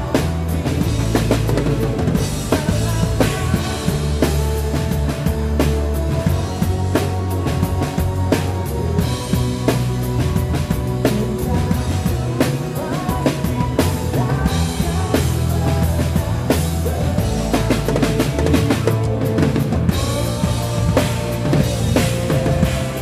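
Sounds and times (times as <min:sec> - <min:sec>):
accompanying music: 0:00.0 - 0:23.0
drum kit playing rock groove: 0:00.0 - 0:23.0.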